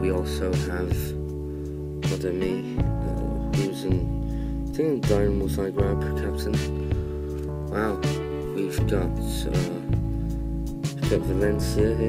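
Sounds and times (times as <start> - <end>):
background music with held tones: 0.0 - 12.0
bass line: 0.0 - 12.0.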